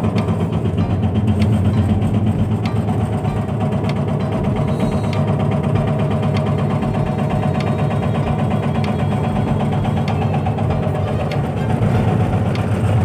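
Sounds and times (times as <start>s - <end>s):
diesel engine clattering: 0.0s - 13.0s
sharp ticking: 0.0s - 13.0s.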